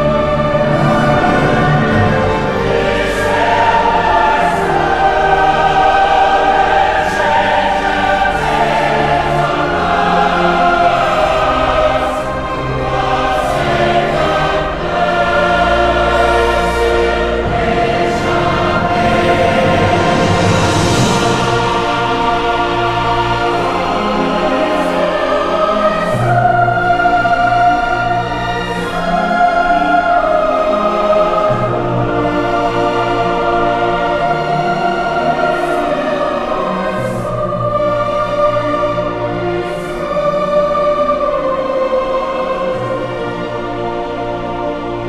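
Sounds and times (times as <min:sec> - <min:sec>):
choir singing slow chords: 0:00.0 - 0:45.0.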